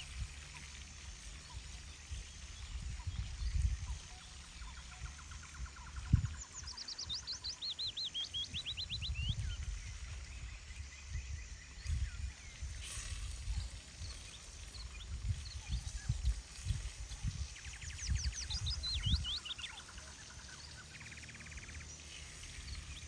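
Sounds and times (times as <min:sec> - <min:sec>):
wind rumble on microphone: 0:00.0 - 0:23.0
songbird trilling: 0:01.3 - 0:12.8, 0:13.5 - 0:23.0.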